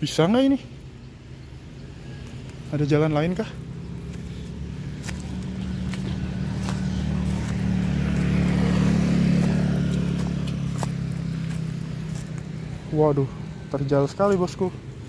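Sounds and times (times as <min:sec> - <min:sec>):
vehicle engine humming: 0:00.0 - 0:15.0
footsteps on gravel and leaves: 0:02.2 - 0:15.0.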